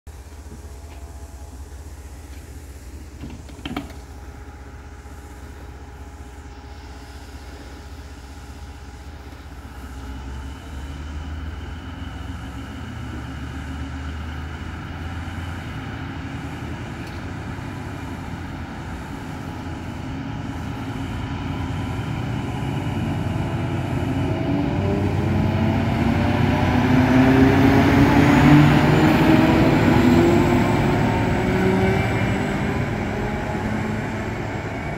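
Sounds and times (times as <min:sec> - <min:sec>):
diesel locomotive engine: 0:00.1 - 0:34.9.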